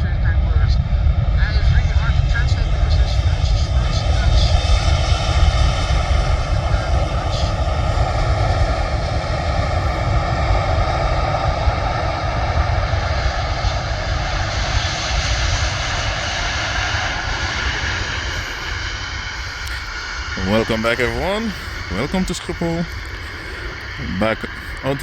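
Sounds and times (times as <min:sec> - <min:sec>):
jet airliner engines rumbling: 0:00.0 - 0:25.0
jet engine high whine: 0:00.0 - 0:25.0.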